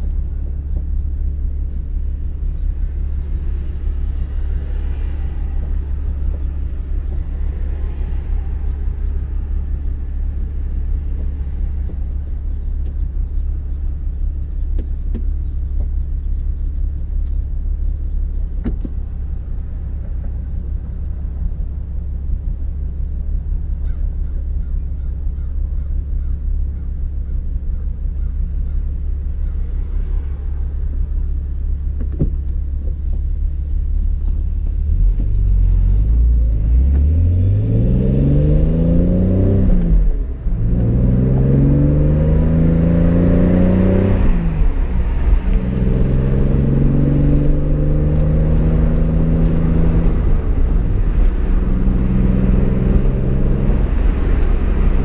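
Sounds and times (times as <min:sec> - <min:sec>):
car engine idling: 0:00.0 - 0:37.1, 0:37.9 - 0:55.0.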